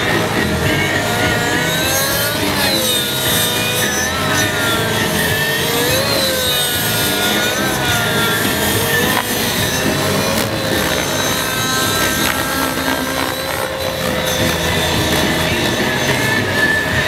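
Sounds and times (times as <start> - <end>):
model helicopter whine: 0.0 - 17.0.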